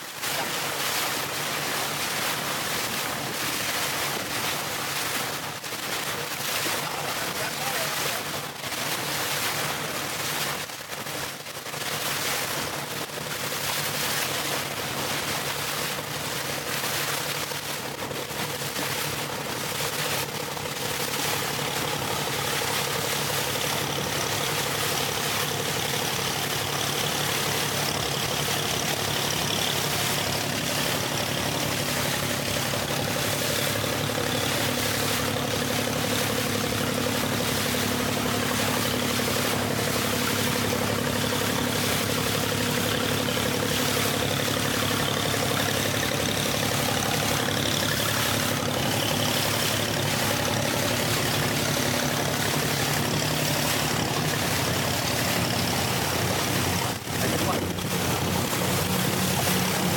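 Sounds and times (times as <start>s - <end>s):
motorboat engine running: 0.0s - 59.9s
rushing wind and water: 0.0s - 59.9s.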